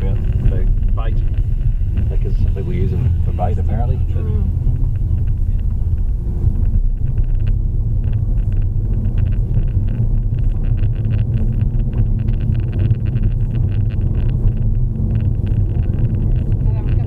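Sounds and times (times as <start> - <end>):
rapid patter of light clicks: 0.0 - 17.0
vehicle rumble from inside cabin: 0.0 - 17.0.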